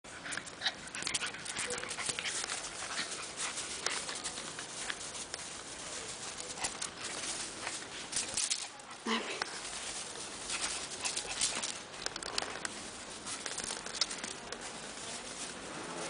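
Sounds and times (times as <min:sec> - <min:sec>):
animals scuffling and rustling: 0:00.1 - 0:16.0.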